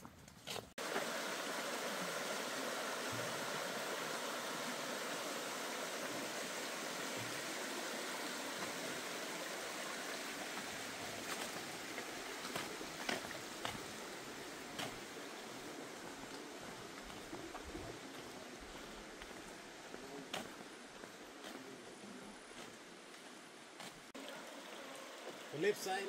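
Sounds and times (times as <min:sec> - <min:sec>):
flowing water rushing: 0:00.8 - 0:26.0.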